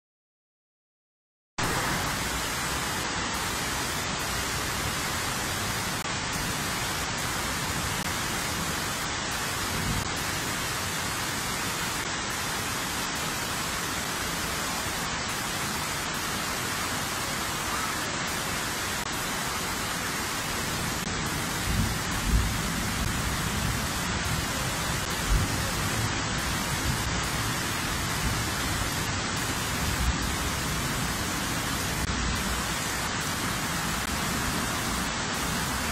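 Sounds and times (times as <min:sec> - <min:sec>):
floodwater flowing: 0:01.6 - 0:35.9
heavy rain: 0:01.6 - 0:35.9.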